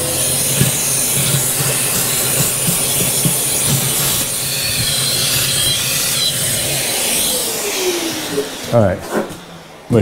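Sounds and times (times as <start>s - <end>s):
shop vacuum running: 0.0s - 10.0s.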